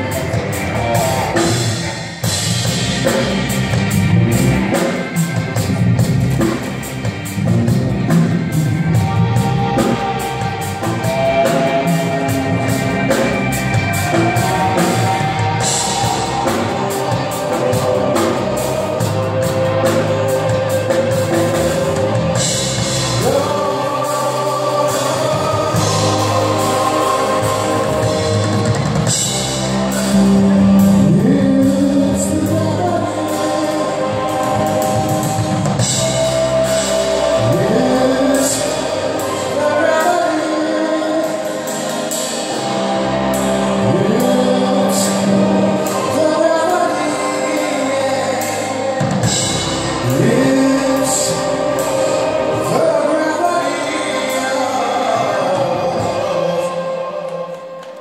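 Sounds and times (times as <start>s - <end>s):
live band playing: 0.0s - 58.0s
person singing: 8.1s - 58.0s.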